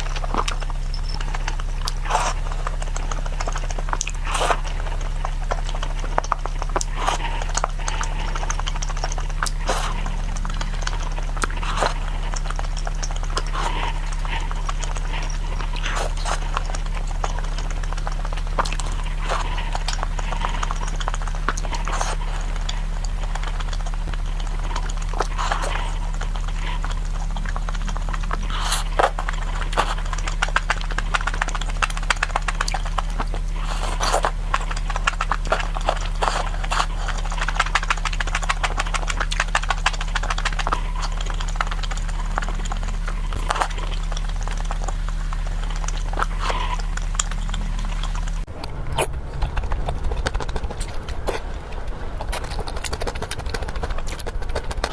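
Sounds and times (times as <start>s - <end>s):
chewing and lip-smacking: 0.0s - 54.9s
low electrical hum: 0.0s - 54.9s.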